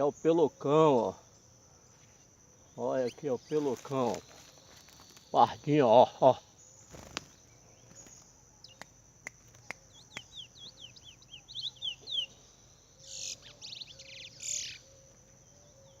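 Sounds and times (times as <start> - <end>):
harsh buzzy bird calls: 0.0 - 16.0
sparrow chirping: 0.0 - 16.0.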